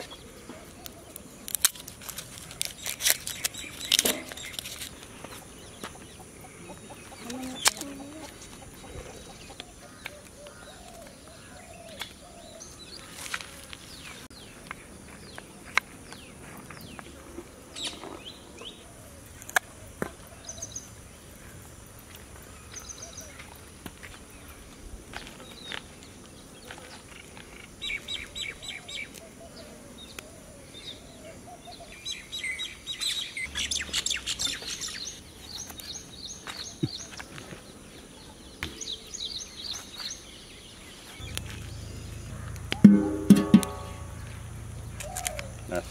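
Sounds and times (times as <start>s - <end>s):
birds chirping: 2.6s - 24.8s, 25.4s - 45.9s.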